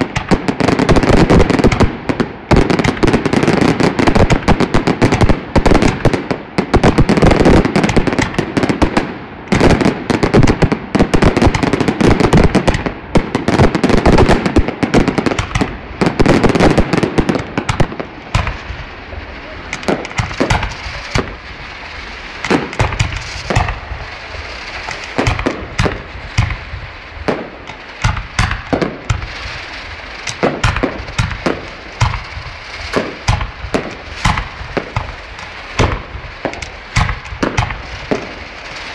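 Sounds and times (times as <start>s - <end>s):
firework stars popping and cracking: 0.0s - 38.9s
fireworks bursts and bangs: 0.0s - 38.9s.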